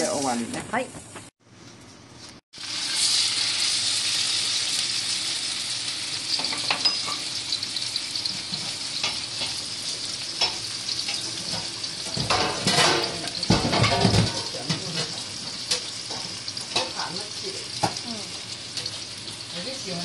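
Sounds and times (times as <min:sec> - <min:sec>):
food sizzling in hot oil: 0:02.5 - 0:20.0.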